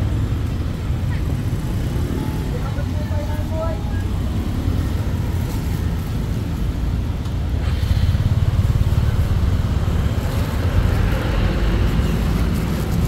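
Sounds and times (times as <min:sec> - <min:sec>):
motorbikes passing: 0:00.0 - 0:13.0
street traffic rumble: 0:00.0 - 0:13.0.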